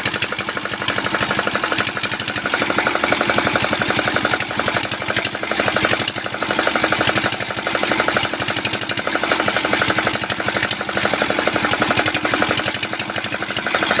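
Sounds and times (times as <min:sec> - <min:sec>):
diesel engine chugging: 0:00.0 - 0:14.0.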